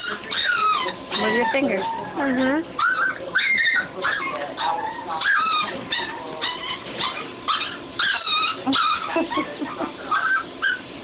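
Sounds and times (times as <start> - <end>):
dog whining: 0.0 - 10.9.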